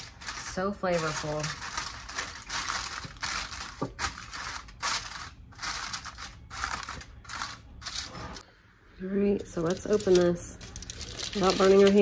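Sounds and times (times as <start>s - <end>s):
aluminium foil crinkling: 0.0s - 8.4s, 9.4s - 12.0s.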